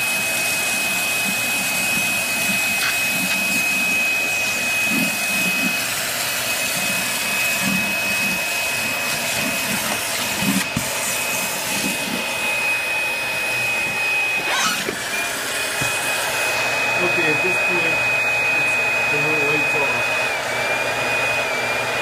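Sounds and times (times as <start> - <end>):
vacuum cleaner running on carpet: 0.0 - 22.0.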